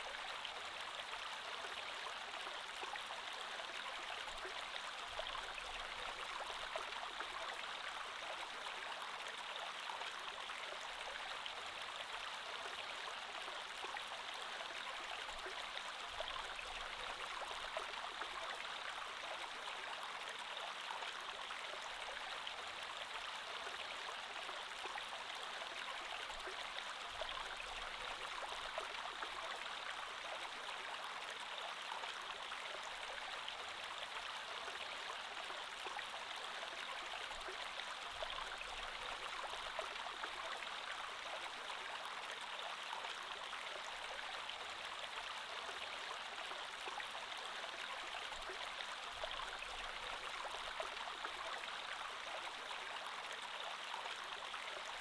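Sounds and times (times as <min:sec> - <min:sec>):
creek water babbling over stones: 0:00.0 - 0:55.0.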